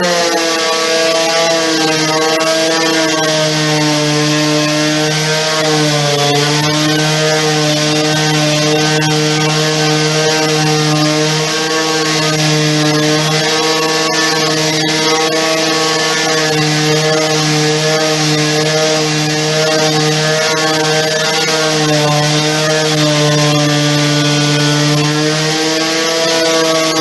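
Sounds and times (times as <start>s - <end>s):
electric sander motor humming: 0.0s - 27.0s.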